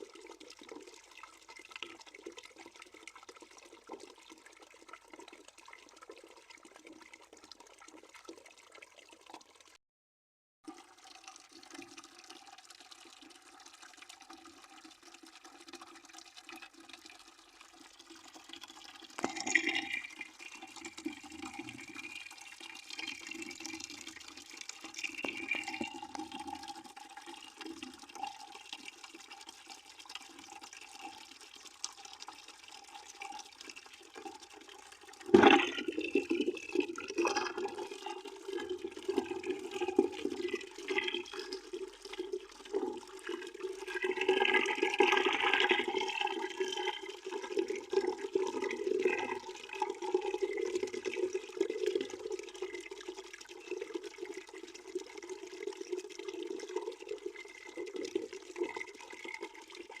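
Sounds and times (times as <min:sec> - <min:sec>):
water pouring into a bucket: 0:00.0 - 0:09.8, 0:10.6 - 1:00.0.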